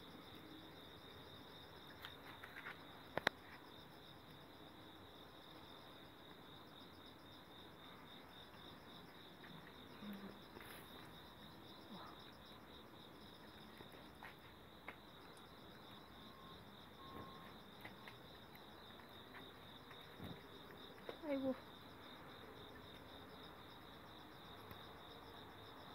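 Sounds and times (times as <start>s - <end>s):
faint insect chirping: 0.0s - 25.9s.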